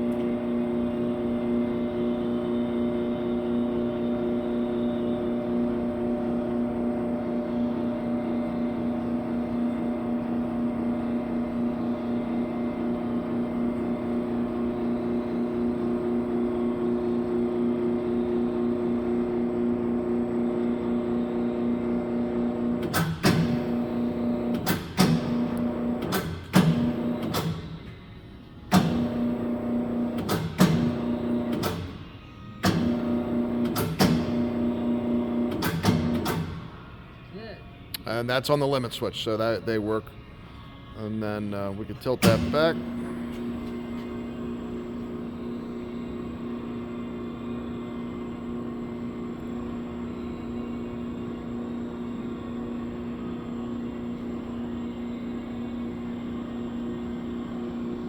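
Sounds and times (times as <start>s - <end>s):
electric drive humming: 0.0s - 37.2s, 41.0s - 58.0s.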